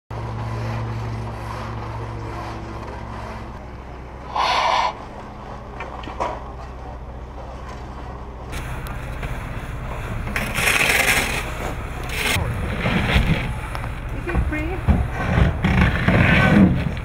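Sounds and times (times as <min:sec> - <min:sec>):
low engine hum: 0:00.1 - 0:17.0.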